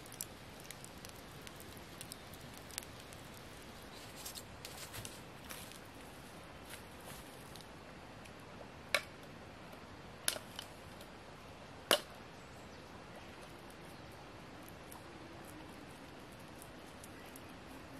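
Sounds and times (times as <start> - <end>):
faint outdoor background: 0.0 - 17.9.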